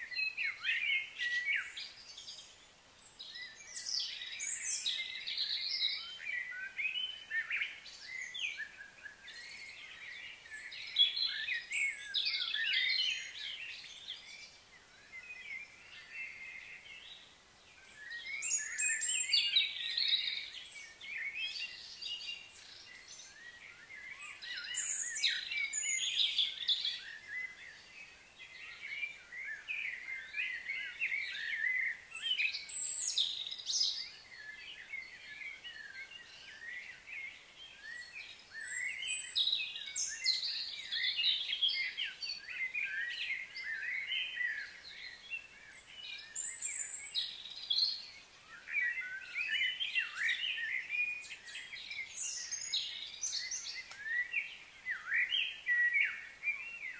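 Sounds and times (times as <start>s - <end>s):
birds chirping and calling: 0.1s - 56.9s.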